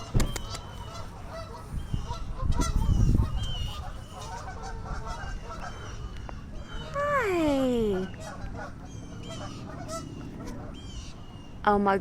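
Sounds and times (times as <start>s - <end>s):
low rumble on microphone: 0.0s - 11.6s
birds calling: 0.0s - 12.0s.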